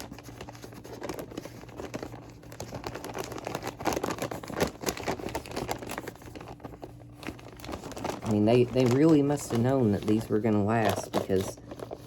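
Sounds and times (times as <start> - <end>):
paper bag crinkling and rustling: 0.0 - 12.0.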